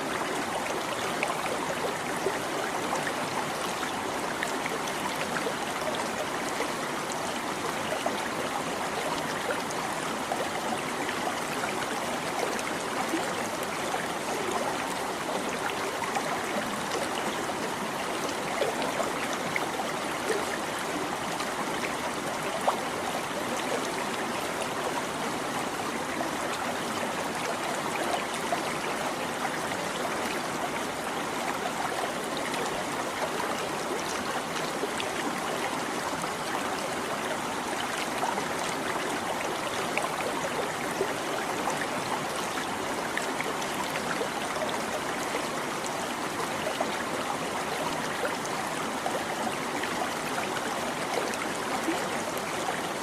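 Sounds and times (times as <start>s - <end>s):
stream babbling: 0.0s - 53.0s.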